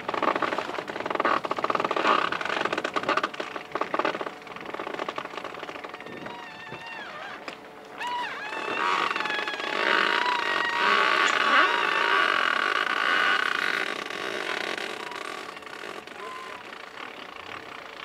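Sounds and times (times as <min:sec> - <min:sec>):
winch mechanical whine: 0:00.0 - 0:18.0.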